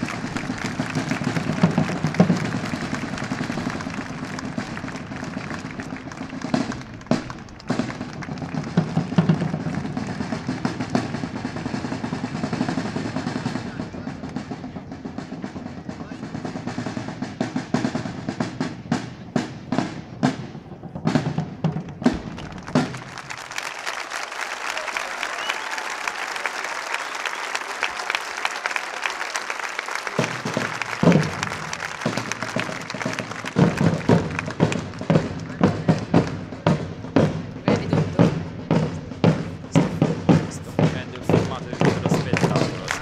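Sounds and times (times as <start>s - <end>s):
crowd applauding: 0.0s - 15.3s, 22.0s - 43.0s
field drums rolling: 0.0s - 43.0s.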